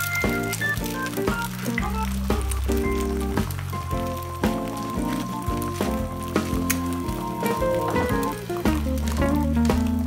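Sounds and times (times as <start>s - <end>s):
background music with beat: 0.0s - 10.0s
eggs sizzling in oil: 0.0s - 10.0s.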